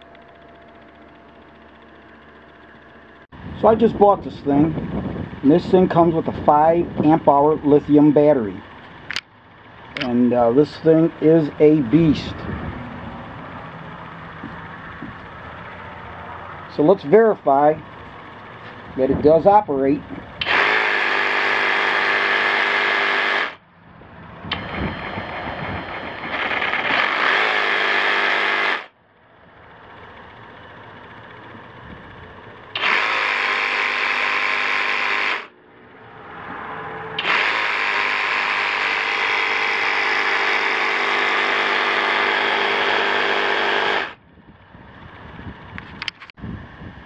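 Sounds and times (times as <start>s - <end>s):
reciprocating saw whirring: 0.0s - 19.4s, 20.0s - 23.6s, 24.4s - 29.0s, 29.6s - 44.2s.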